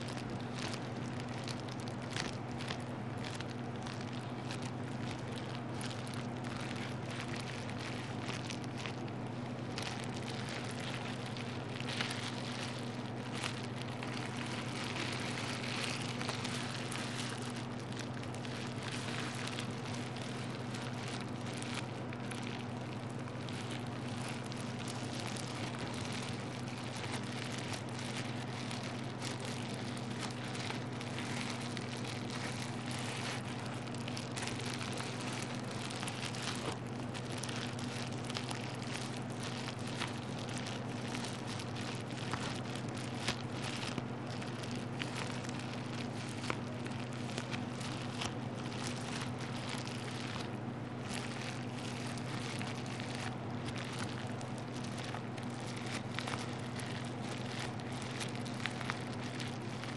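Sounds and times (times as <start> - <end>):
bubble wrap crackling: 0.0 - 59.9
steady low hum: 0.0 - 59.9.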